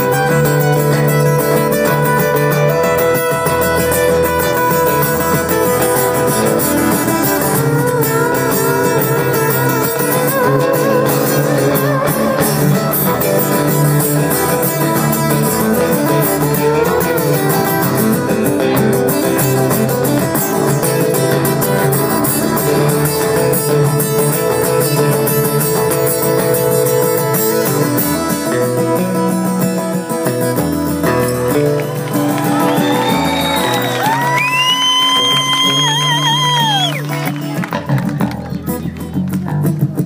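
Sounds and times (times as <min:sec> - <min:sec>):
guitar: 0:00.0 - 0:40.0
live band playing: 0:00.0 - 0:40.0.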